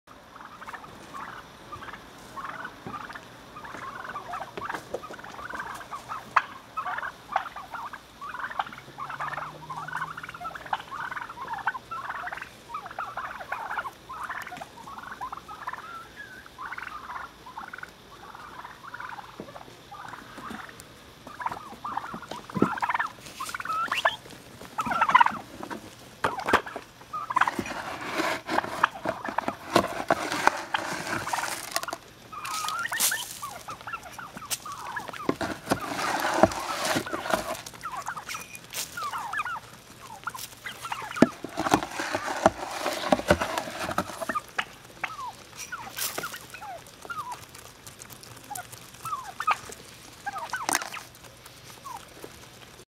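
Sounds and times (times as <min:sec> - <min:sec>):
turkeys calling: 0:00.2 - 0:52.8.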